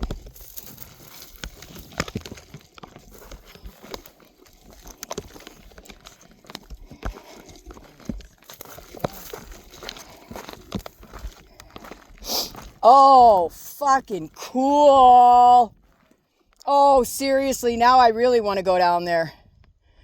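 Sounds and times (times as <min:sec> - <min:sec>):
footsteps crunching on gravel: 0:00.0 - 0:16.6.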